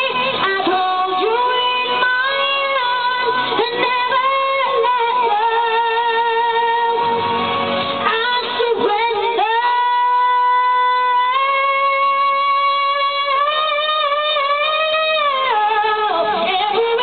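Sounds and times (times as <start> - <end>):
woman singing a ballad: 0.0 - 17.0.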